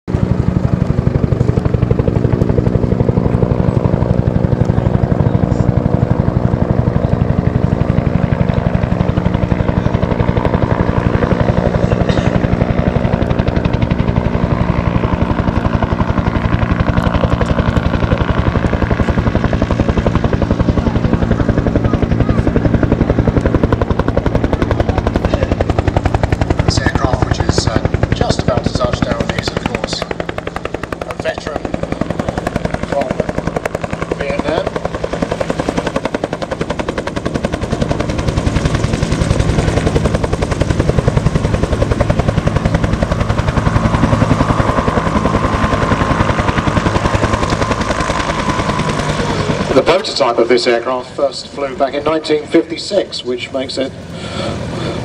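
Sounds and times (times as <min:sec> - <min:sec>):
helicopter rotor blade slap: 0:00.1 - 0:53.1
turbine hum: 0:00.1 - 0:55.0.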